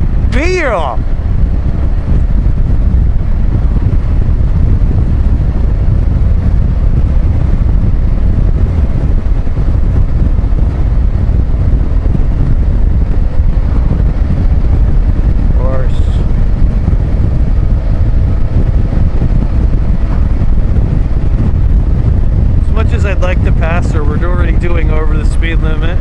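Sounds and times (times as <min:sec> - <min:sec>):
motorcycle engine and road rumble: 0:00.0 - 0:26.0
wind rush on microphone: 0:00.0 - 0:26.0.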